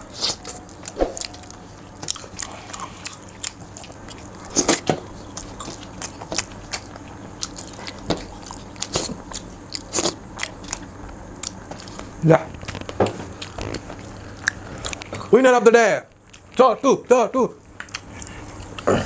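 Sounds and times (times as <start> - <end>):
chewing and biting: 0.1 - 15.3, 17.7 - 19.0.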